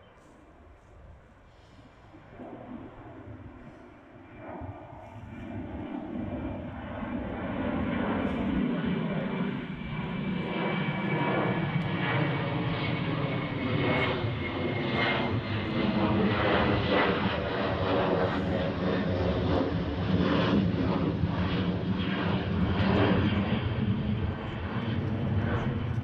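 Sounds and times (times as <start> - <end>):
jet airliner flying overhead: 0.0 - 26.0.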